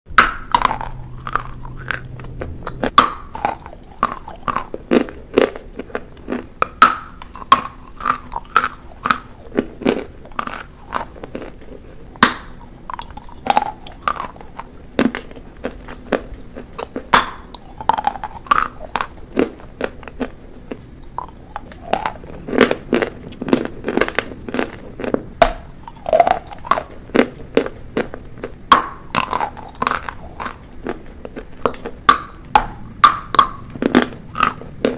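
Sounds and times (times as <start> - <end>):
chalk crunching while chewed: 0.2 - 34.9.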